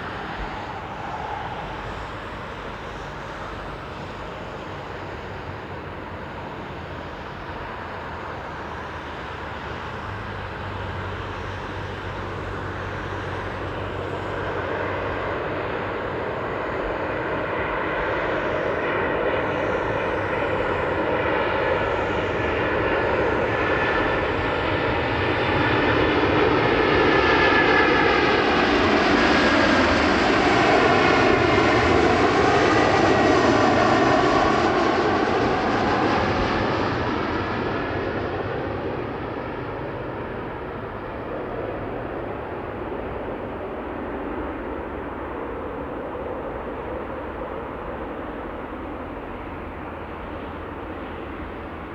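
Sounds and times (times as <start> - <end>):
jet airliner engines passing: 0.0 - 51.9.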